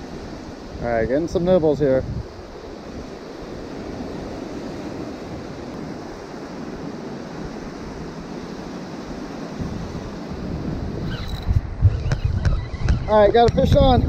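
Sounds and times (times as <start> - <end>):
surf washing over rocks: 0.0 - 11.9, 12.5 - 14.0
wind buffeting microphone: 0.0 - 14.0.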